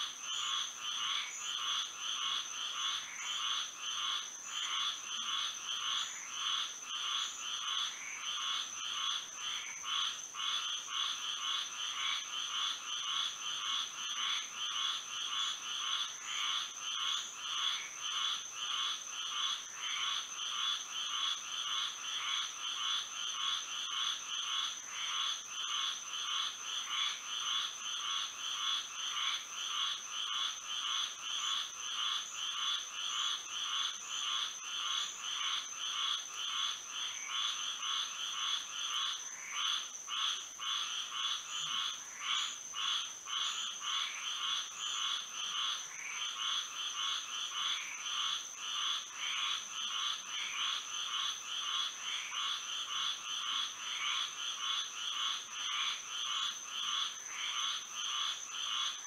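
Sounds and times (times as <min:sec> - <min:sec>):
frogs calling: 0:00.0 - 0:59.0.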